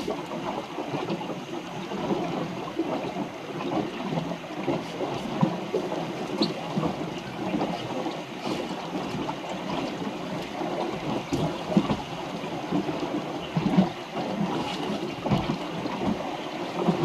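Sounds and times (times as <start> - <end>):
water rushing along a hull: 0.0 - 17.0.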